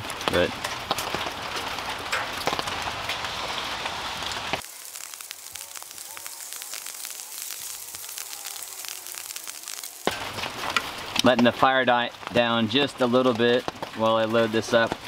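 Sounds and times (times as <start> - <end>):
rain pattering: 0.0 - 15.0
wood fire crackling: 0.0 - 15.0.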